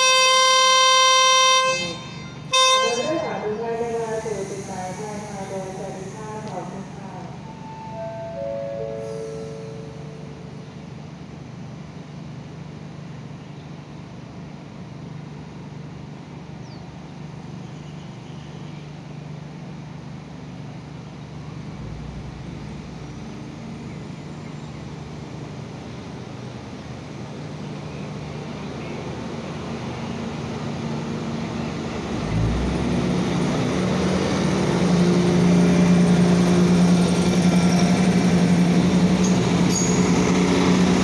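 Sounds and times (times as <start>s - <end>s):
diesel railcar engine droning: 0.0s - 41.0s.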